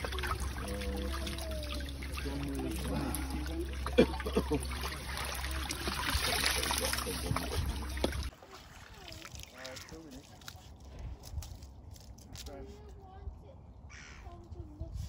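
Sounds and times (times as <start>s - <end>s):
water splashing and trickling: 0.0s - 13.2s.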